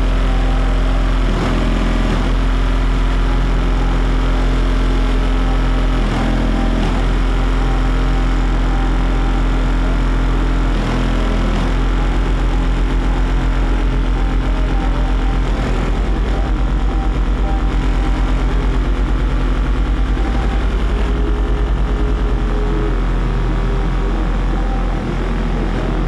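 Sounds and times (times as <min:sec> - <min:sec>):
deep bass tone from subwoofers: 0:00.0 - 0:26.0.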